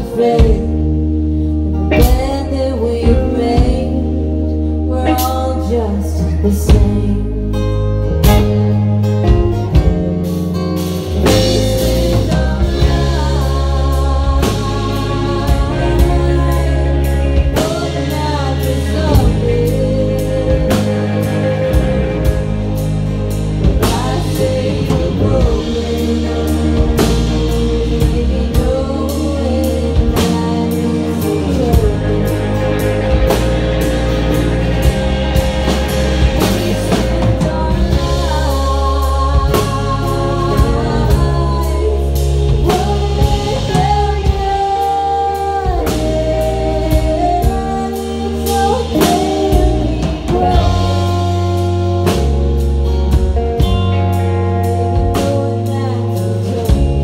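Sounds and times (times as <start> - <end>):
drum kit: 0.0 - 57.0
electric bass: 0.0 - 57.0
held bending melody line: 1.8 - 57.0.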